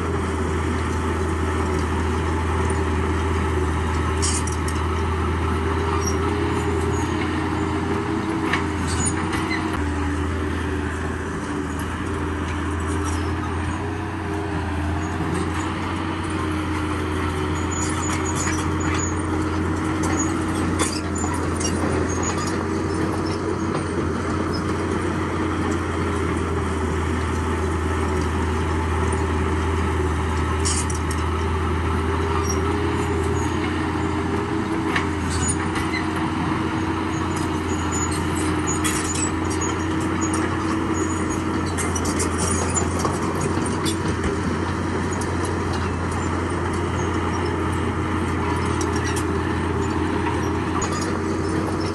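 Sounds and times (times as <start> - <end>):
diesel engine under load: 0.0 - 51.9.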